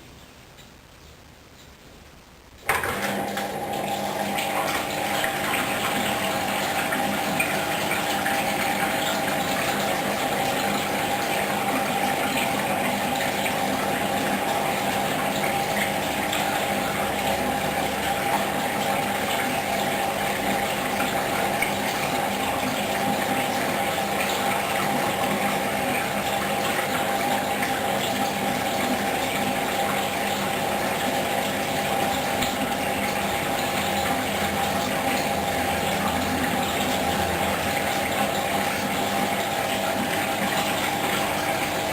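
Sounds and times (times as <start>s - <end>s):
mechanical hum: 0.0s - 41.9s
water gushing in washing machine: 2.6s - 41.9s.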